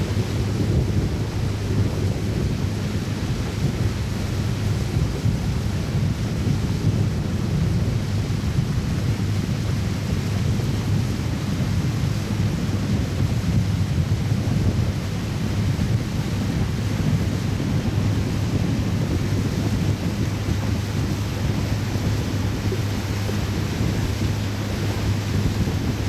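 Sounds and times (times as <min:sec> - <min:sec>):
powerboat engine rumble: 0:00.0 - 0:26.0
wind buffeting microphone: 0:00.0 - 0:26.0.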